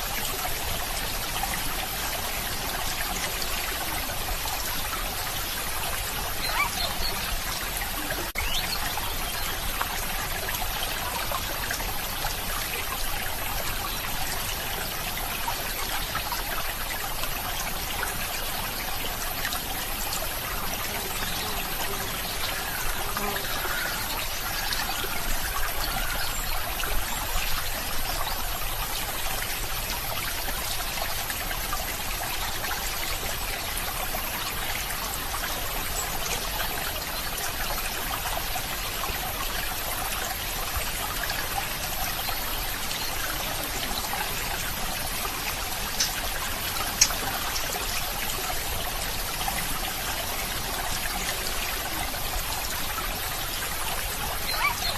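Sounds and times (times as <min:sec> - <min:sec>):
stream babbling: 0:00.0 - 0:54.9.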